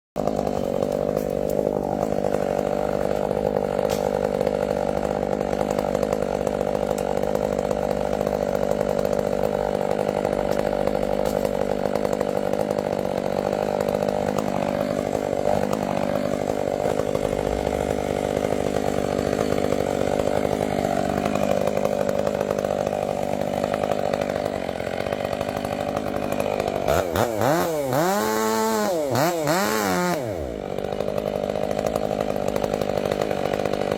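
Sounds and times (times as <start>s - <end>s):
power saw cutting wood: 0.2s - 33.9s.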